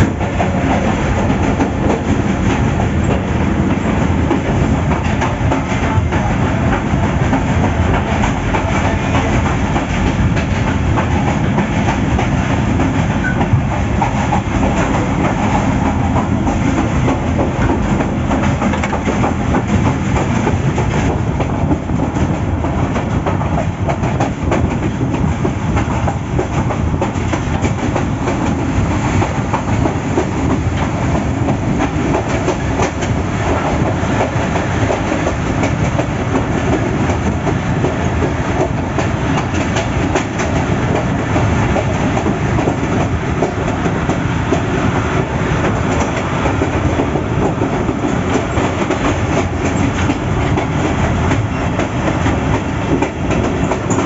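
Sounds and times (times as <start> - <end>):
clickety-clack of train wheels: 0.0 - 54.0
train wheels rumbling on rails: 0.0 - 54.0.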